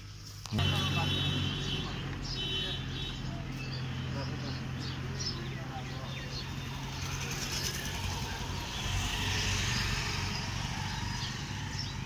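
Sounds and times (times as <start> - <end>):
vehicle passing: 0.5 - 12.0.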